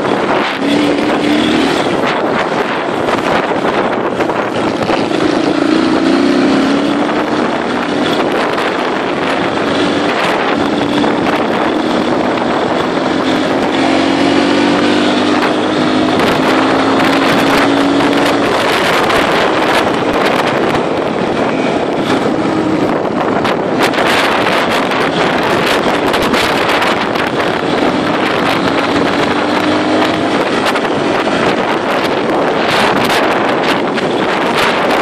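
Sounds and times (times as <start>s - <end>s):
dirt bike engine revving: 0.0s - 35.0s
wind rushing over microphone: 0.0s - 35.0s.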